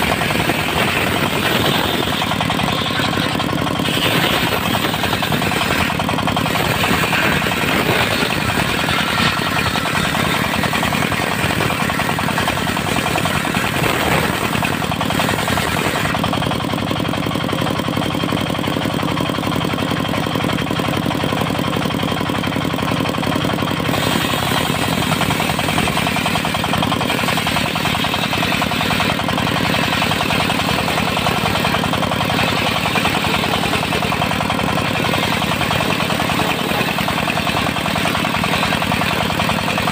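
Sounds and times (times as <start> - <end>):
saw blade cutting wood: 0.0 - 16.5, 23.8 - 39.9
diesel engine running: 0.0 - 39.9.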